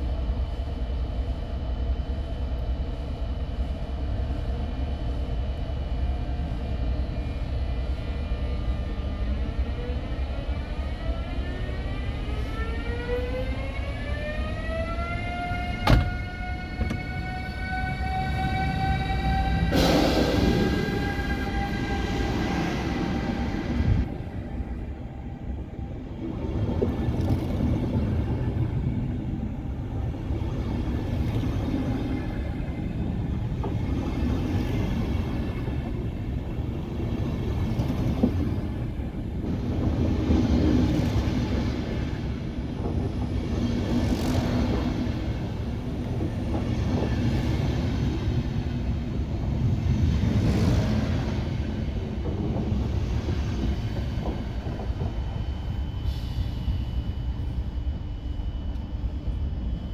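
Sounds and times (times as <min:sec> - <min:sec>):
electric locomotive traction whine: 0:00.0 - 0:59.9
coaches rumbling on rails: 0:02.9 - 0:59.9.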